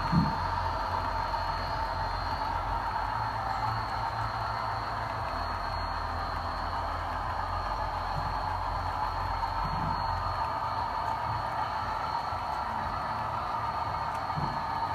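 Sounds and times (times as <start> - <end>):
model train wheels rolling on rails: 0.0 - 14.9.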